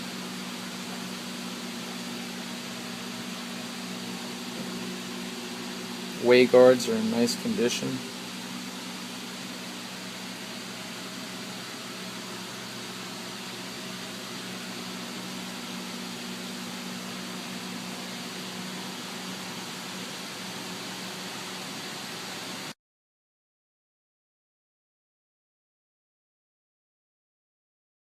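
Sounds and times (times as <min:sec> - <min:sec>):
low mechanical hum with hiss: 0:00.0 - 0:22.8.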